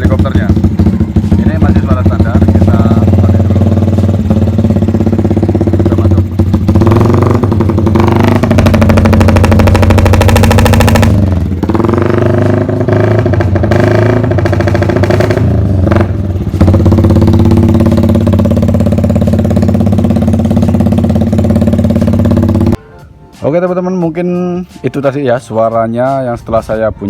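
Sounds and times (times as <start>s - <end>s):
motorcycle engine chopping: 0.0s - 22.8s
motorcycle engine revving: 0.0s - 22.8s.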